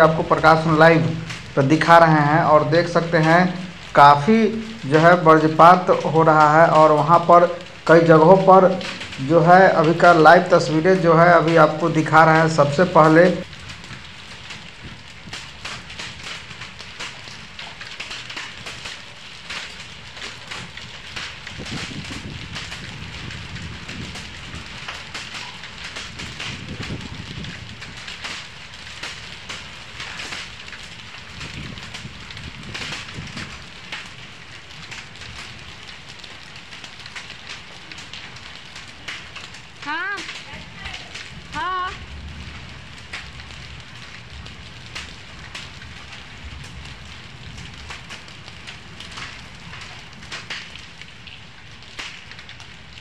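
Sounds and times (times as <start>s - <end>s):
hailstones striking ground: 0.0s - 53.0s
rain hissing: 0.0s - 53.0s.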